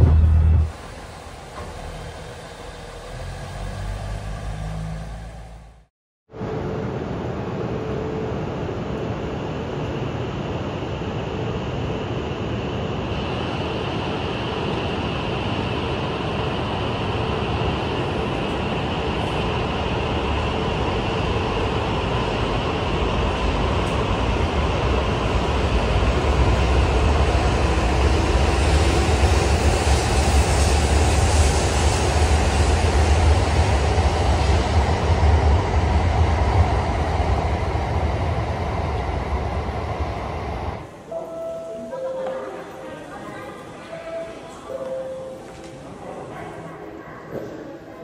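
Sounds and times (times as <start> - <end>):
train rushing rumble: 0.0 - 41.1.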